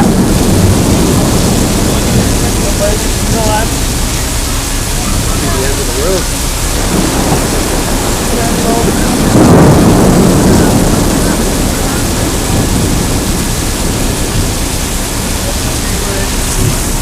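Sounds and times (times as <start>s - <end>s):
heavy rain hissing: 0.0s - 17.0s
thunder rolling: 0.0s - 17.0s.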